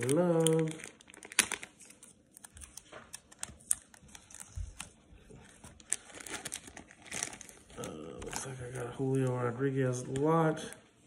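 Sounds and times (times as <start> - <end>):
plastic sleeves crinkling: 0.0 - 10.8.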